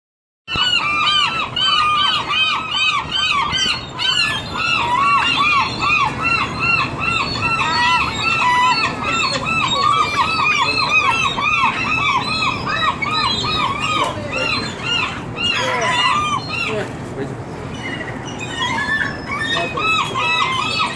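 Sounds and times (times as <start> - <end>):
seagulls squealing calls: 0.5 - 20.9.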